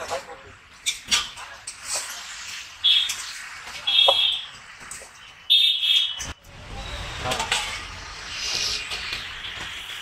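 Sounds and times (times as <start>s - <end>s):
street noise rumble: 0.0s - 10.0s.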